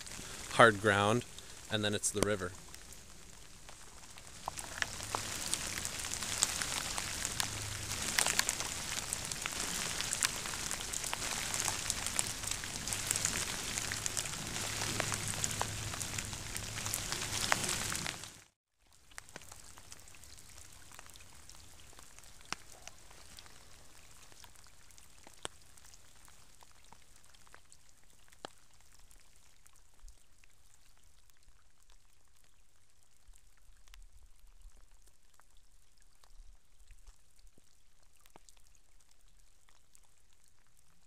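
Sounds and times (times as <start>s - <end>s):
light rain hiss: 0.0s - 41.0s.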